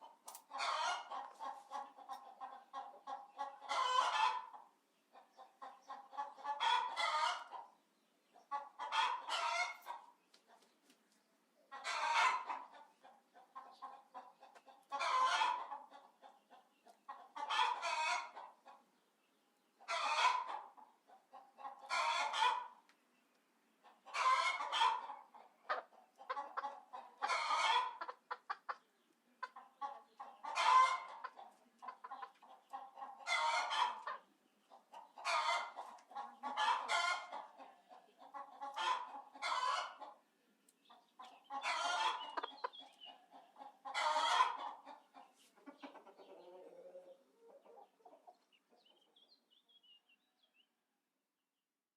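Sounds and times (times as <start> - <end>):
chicken calling and clucking: 0.0 - 50.7.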